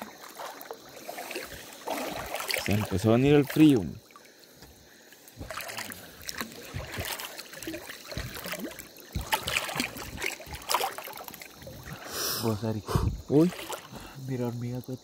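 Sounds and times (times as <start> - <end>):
river water sloshing and splashing: 0.0 - 15.0.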